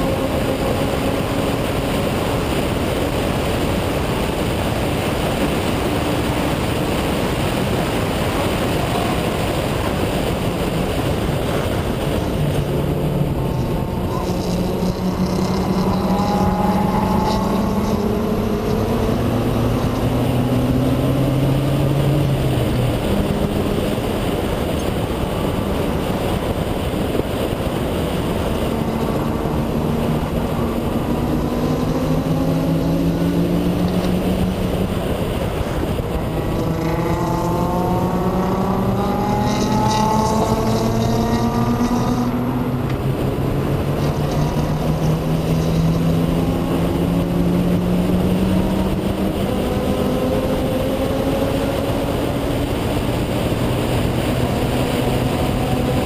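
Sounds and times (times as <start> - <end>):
rotary engine at speed: 0.0 - 56.0
wind and road noise: 0.0 - 56.0.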